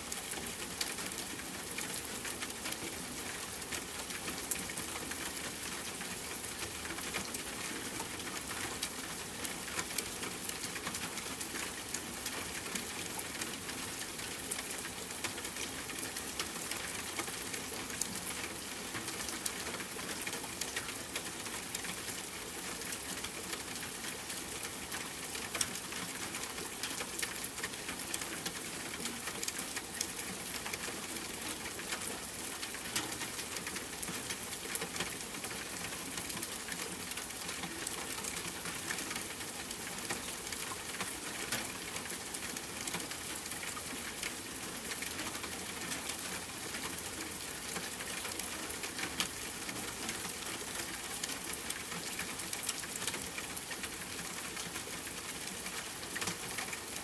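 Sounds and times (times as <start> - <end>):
rain on a hard surface: 0.0 - 57.0.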